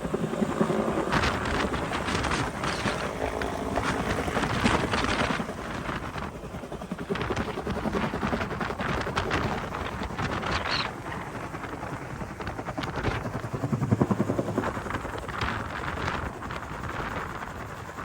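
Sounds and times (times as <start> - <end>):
helicopter rotor and turbine: 0.0 - 18.0
wind buffeting microphone: 0.0 - 18.0.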